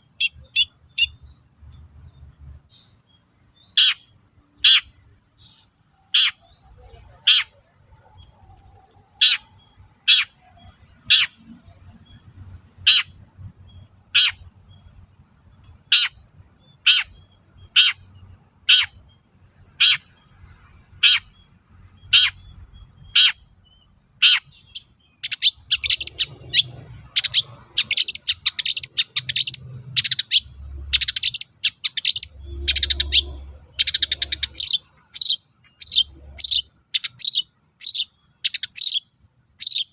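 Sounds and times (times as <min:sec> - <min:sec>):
shrike harsh calls and chattering: 0:03.6 - 0:23.5, 0:24.1 - 0:39.9.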